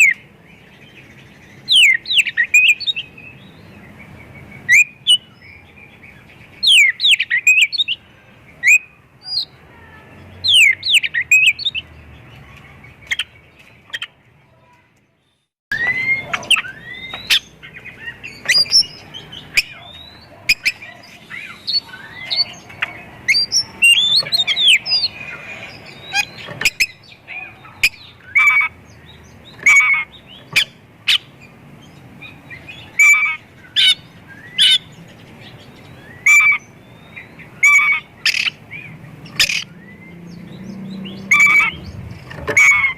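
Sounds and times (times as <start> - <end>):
songbird singing varied song: 0.0 - 42.9.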